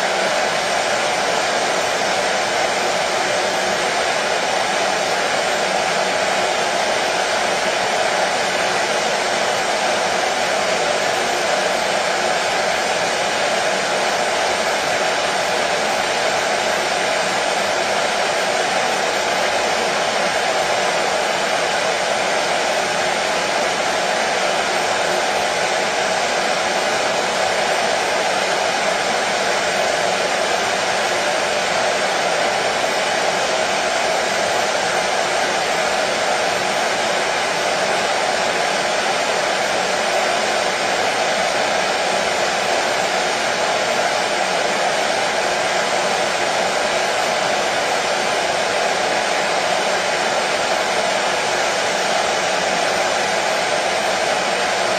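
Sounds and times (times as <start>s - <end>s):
hair dryer running: 0.0s - 54.9s.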